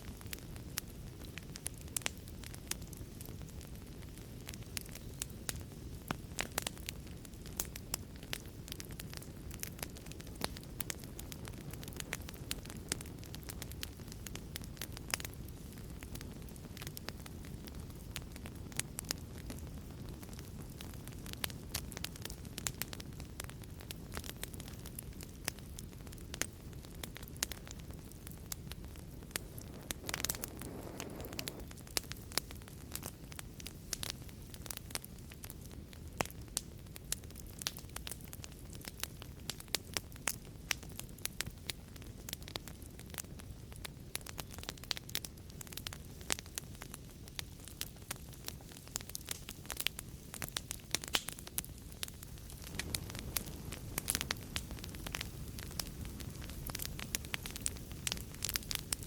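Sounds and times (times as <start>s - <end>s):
fireplace fire crackling: 0.0s - 59.0s
low rumble of flames: 0.0s - 59.0s
fire hissing: 0.1s - 36.4s, 42.7s - 59.0s.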